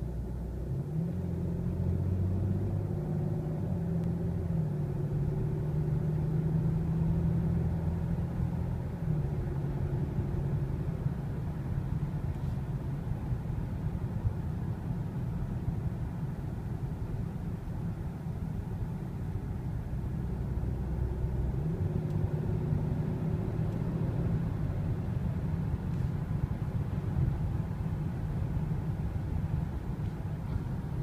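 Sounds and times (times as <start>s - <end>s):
diesel engine heard from cabin: 0.0s - 31.0s.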